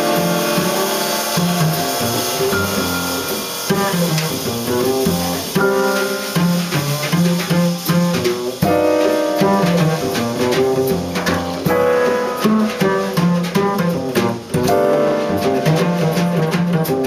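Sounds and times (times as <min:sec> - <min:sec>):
drum kit cymbals and drums: 0:00.0 - 0:17.0
piano chords: 0:00.0 - 0:17.0
plucked double bass: 0:00.0 - 0:17.0.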